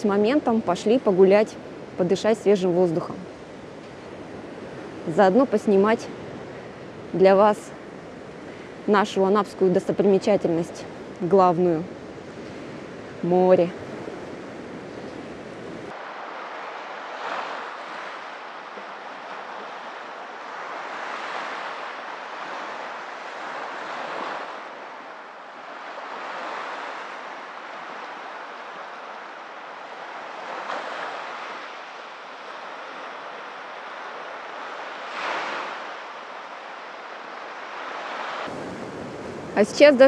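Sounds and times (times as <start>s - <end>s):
waves breaking on sandy beach: 0.0s - 40.0s.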